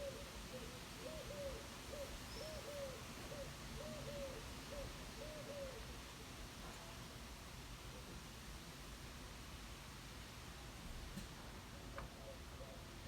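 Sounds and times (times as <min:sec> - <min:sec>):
faint wind hiss: 0:00.0 - 0:11.9.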